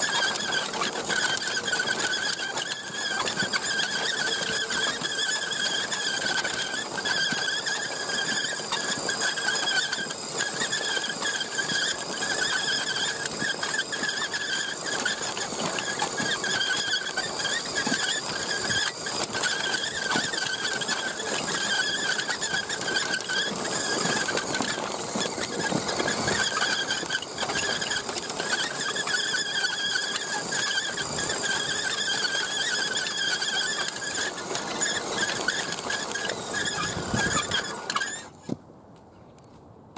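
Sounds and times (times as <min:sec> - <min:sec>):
electric motor whining: 0:00.0 - 0:38.6.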